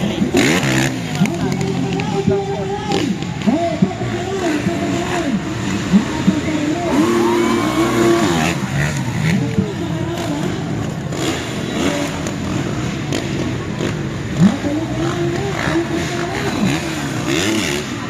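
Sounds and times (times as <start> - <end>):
dirt bike engines revving: 0.0 - 18.0
voices: 0.0 - 18.0.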